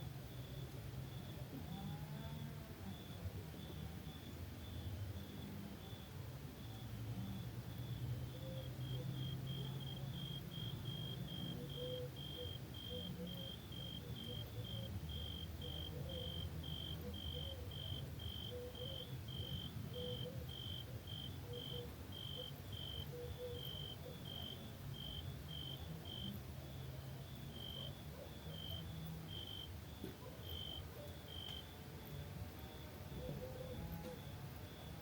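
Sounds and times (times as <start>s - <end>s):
cricket chirping: 0.3s - 35.0s.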